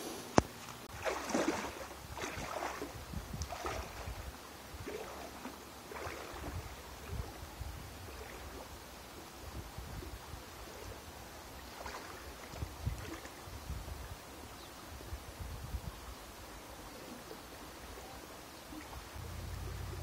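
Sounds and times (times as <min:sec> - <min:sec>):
legs wading through river water: 0:00.6 - 0:15.3, 0:16.0 - 0:20.0.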